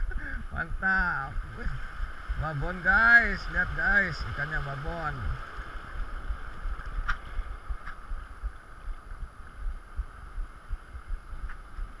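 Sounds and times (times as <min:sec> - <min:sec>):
wind buffeting microphone: 0:00.0 - 0:12.0
small waves washing: 0:00.4 - 0:12.0.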